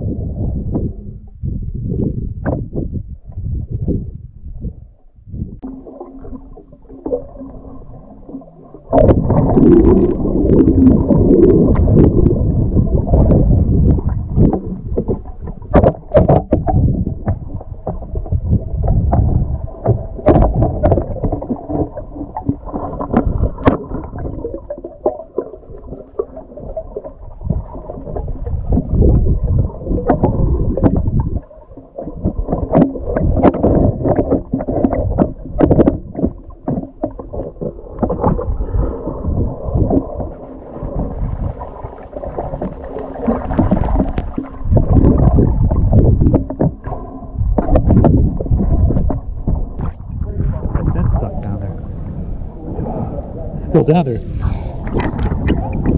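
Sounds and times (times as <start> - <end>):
underwater rumbling and gurgling: 0.0 - 55.9.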